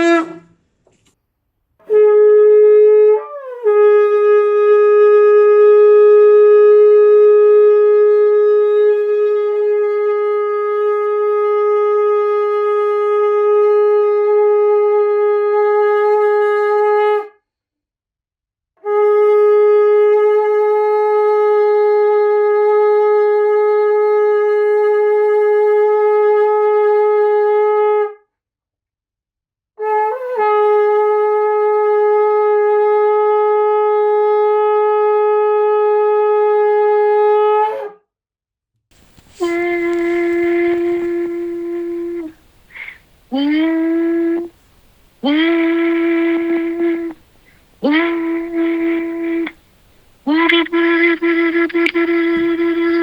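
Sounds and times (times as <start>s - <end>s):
shofar long blasts: 0.0s - 0.6s, 1.8s - 17.3s, 18.8s - 28.1s, 29.8s - 37.8s, 39.0s - 44.6s, 45.2s - 53.0s.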